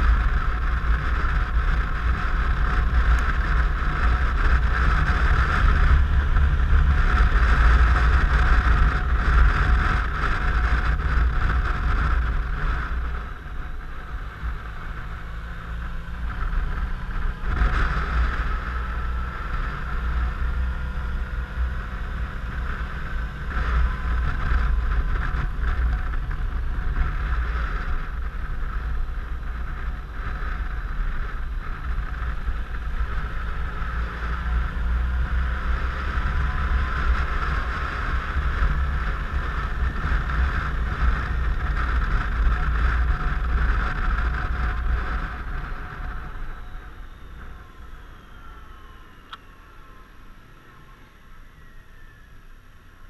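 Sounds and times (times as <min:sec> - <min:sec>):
rising engine whine: 0:00.0 - 0:53.0
scooter engine running: 0:00.0 - 0:53.0
wind rumble on microphone: 0:00.0 - 0:53.0.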